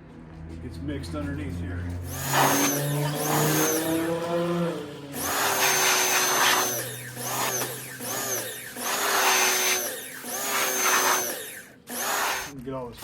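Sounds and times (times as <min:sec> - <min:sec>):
pump motor winding up and down: 0:01.9 - 0:12.6
pressure washer water jet hissing: 0:02.0 - 0:12.5.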